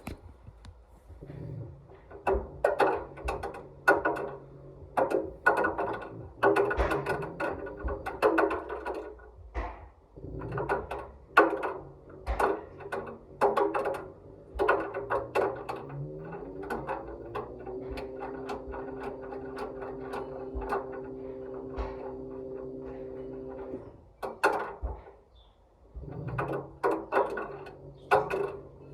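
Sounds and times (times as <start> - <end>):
washing machine motor hum: 0.0 - 25.0, 25.9 - 28.9
washing machine knocks and clicks: 1.4 - 25.2.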